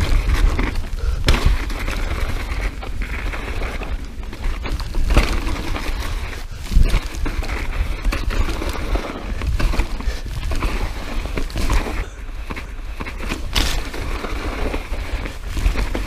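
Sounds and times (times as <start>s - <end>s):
bike knocking and rattling: 0.0s - 16.0s
bike tyre noise: 0.0s - 16.0s
wind rumble on microphone: 0.0s - 16.0s.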